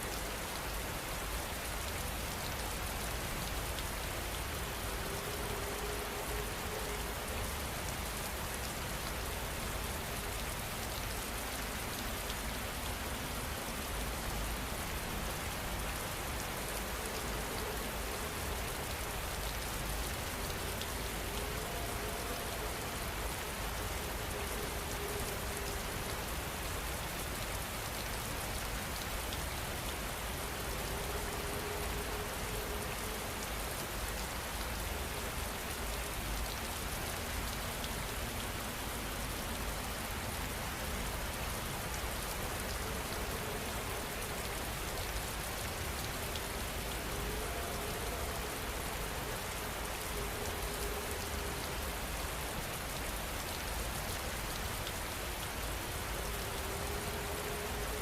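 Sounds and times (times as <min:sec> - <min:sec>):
rain hiss: 0:00.0 - 0:58.0.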